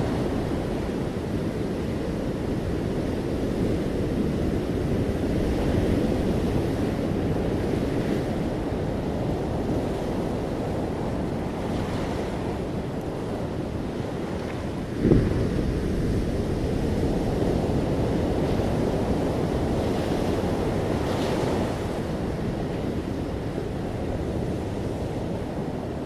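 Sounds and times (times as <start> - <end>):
ocean surf on a beach: 0.0 - 26.0.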